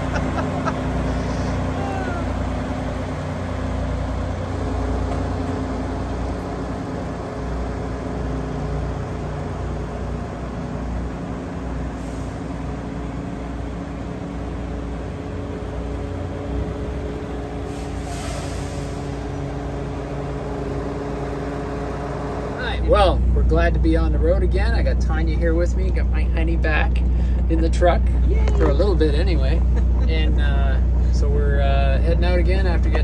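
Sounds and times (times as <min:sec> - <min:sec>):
truck diesel engine droning: 0:00.0 - 0:33.0.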